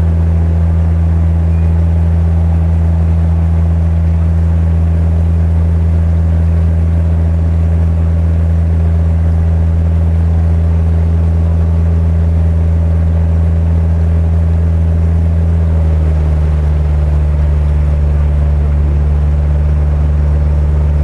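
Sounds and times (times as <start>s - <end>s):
boat engine running: 0.0s - 21.0s
churning wake water: 0.0s - 21.0s.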